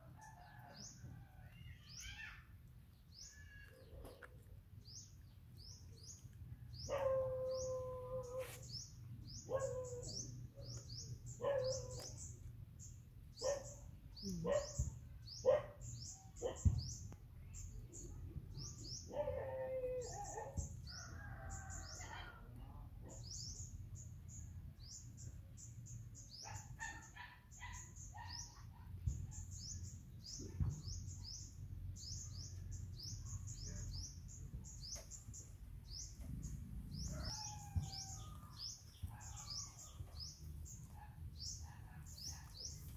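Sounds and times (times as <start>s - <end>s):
small birds chirping: 0.2s - 42.9s.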